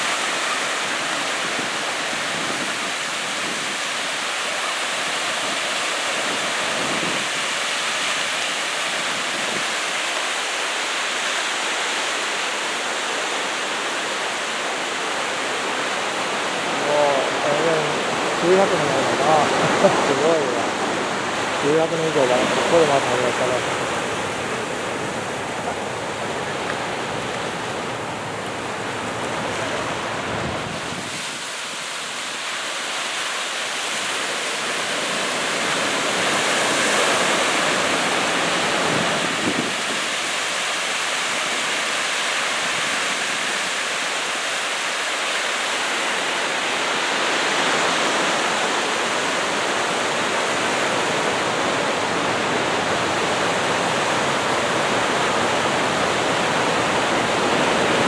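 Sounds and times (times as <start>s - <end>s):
small waves breaking on beach: 0.0s - 58.0s.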